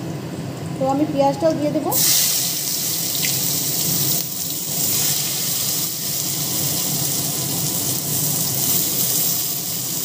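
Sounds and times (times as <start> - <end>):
onions sizzling in oil: 1.9 - 10.0.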